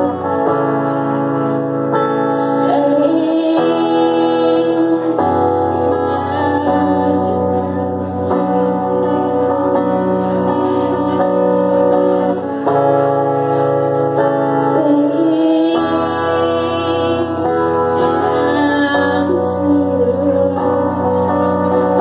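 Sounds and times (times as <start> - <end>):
guitar playing chords: 0.0 - 22.0.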